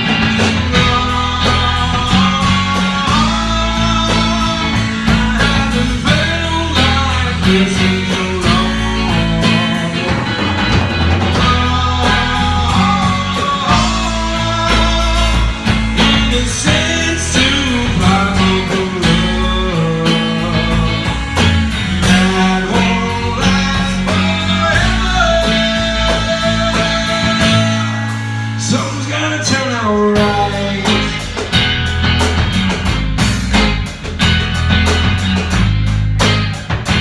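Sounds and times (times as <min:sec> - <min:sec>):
acoustic rock band playing: 0:00.0 - 0:37.0
lead guitar line bending: 0:00.0 - 0:37.0.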